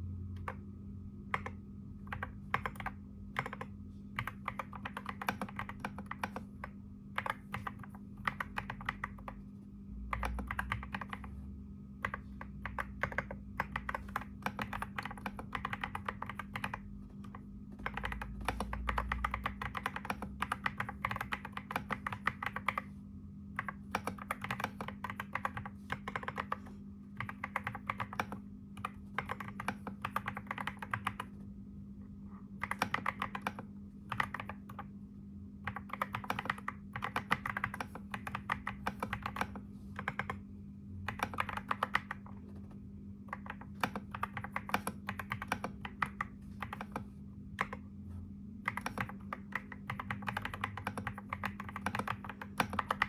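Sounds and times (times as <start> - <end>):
steady low hum: 0.0 - 53.0
keyboard typing: 1.3 - 9.5, 10.1 - 11.4, 12.0 - 31.4, 32.6 - 34.9, 35.6 - 40.4, 41.0 - 47.9, 48.6 - 53.0.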